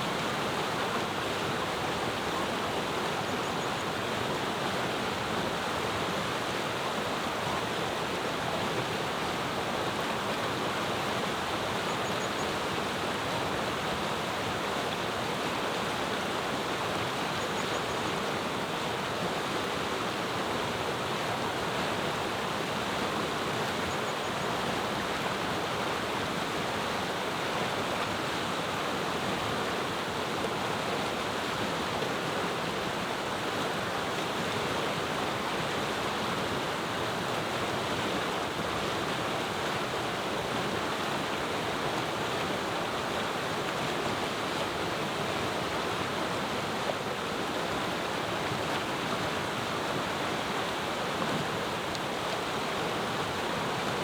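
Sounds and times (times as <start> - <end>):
mountain river rushing: 0.0 - 54.0.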